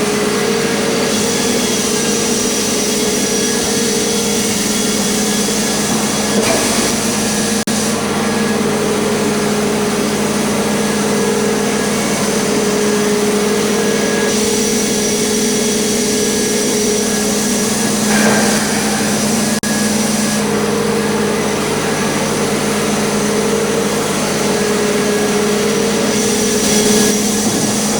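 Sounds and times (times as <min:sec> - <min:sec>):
sawmill engine and blade drone: 0:00.0 - 0:27.9.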